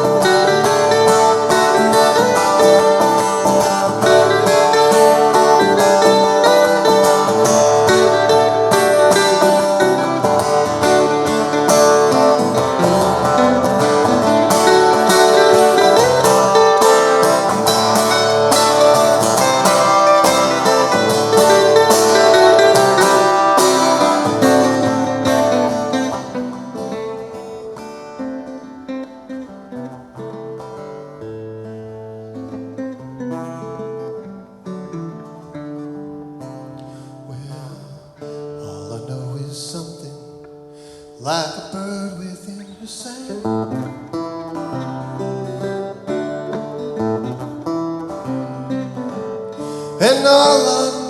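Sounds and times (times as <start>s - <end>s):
picked and strummed guitar: 0.0s - 51.0s.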